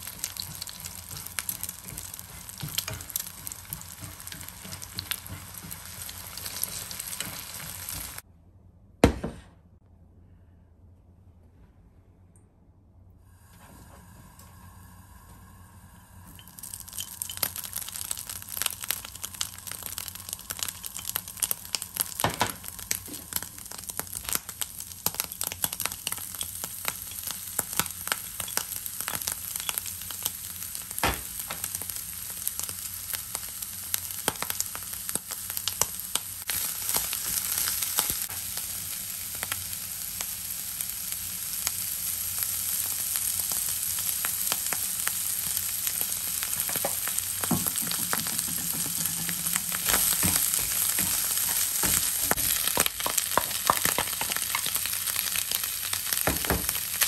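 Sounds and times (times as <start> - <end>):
vegetables sizzling in a frying pan: 0.0 - 8.2, 13.6 - 57.0.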